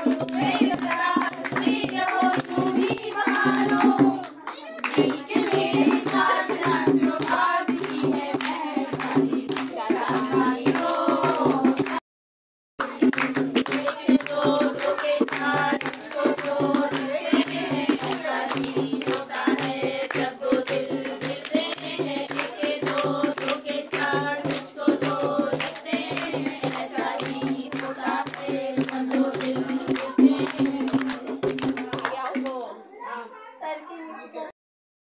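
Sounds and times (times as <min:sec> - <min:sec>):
hand drum fast rhythm: 0:00.0 - 0:12.0, 0:12.8 - 0:32.5
women singing together: 0:00.0 - 0:12.0, 0:12.8 - 0:32.6.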